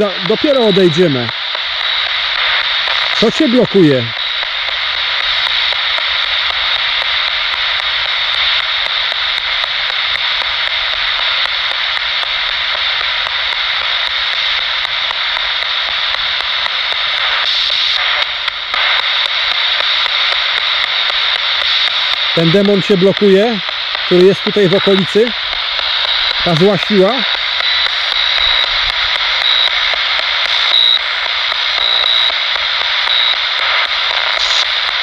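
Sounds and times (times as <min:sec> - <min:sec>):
radio static hiss: 0:00.0 - 0:35.0
faint regular ticks: 0:00.2 - 0:35.0.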